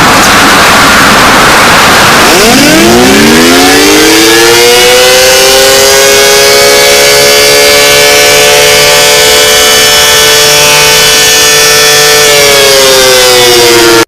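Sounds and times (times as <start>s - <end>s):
two-tone emergency siren: 0.0s - 14.0s.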